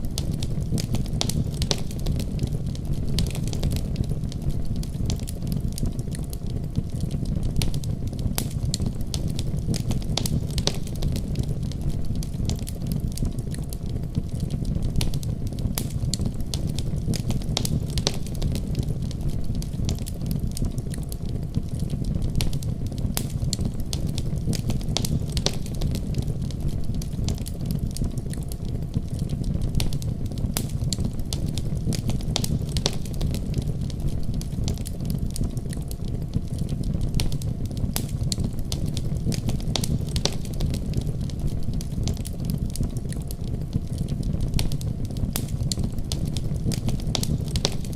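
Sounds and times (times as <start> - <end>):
wood fire crackling and popping: 0.0 - 47.9
deep rumble of snowstorm: 6.5 - 28.3, 28.9 - 47.9.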